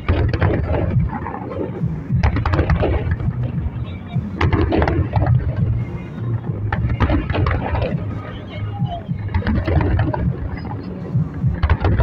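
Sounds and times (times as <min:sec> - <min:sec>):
firework shells booming: 0:00.0 - 0:08.2, 0:09.2 - 0:10.7, 0:11.5 - 0:12.0.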